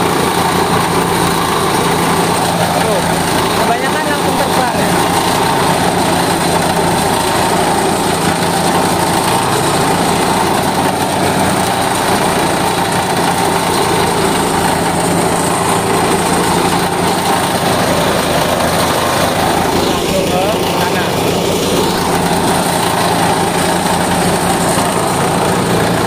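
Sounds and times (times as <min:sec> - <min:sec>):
rice thresher running: 0:00.0 - 0:26.0.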